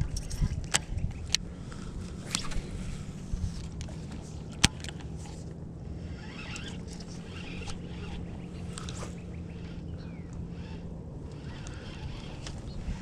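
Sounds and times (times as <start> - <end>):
electric motor humming: 1.3 - 13.0.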